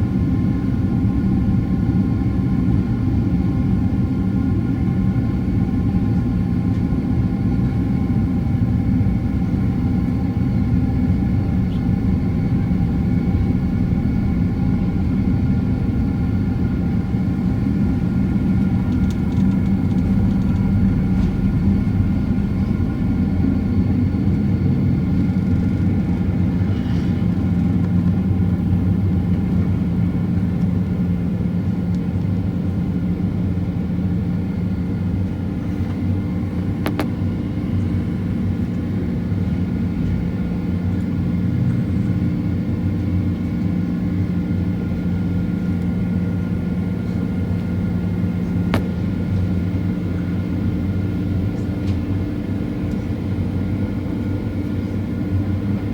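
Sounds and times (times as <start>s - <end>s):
airliner cabin engine hum: 0.0s - 55.9s
low rumble and air noise: 0.0s - 55.9s.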